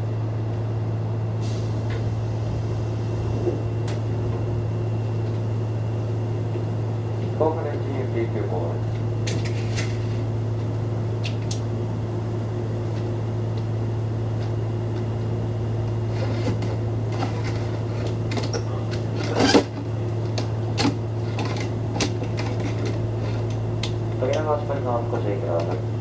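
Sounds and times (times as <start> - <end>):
train interior hum: 0.0 - 26.0.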